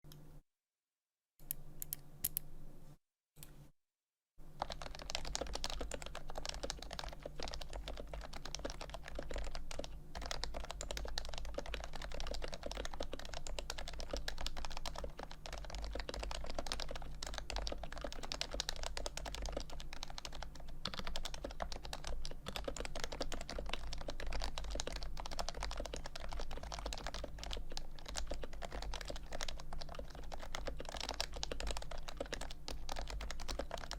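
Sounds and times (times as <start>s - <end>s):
keyboard typing: 4.5s - 33.9s.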